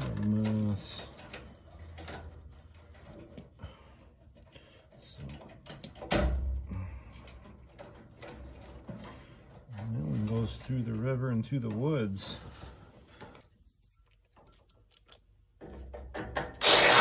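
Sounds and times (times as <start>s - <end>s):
wires rustling and clicking: 0.0s - 16.5s.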